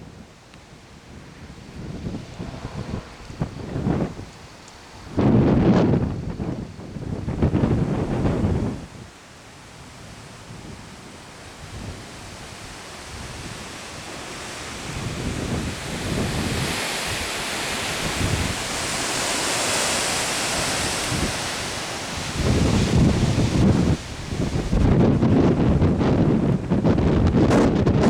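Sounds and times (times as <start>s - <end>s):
storm wind buffeting microphone: 0.0s - 28.0s.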